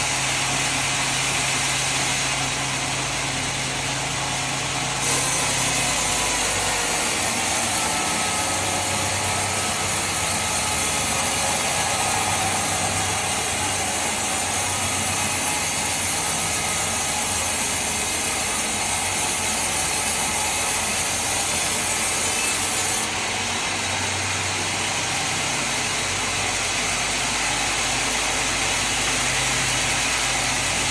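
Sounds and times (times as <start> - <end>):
saw cutting wood: 0.0 - 30.9
sawmill machinery running: 0.0 - 30.9.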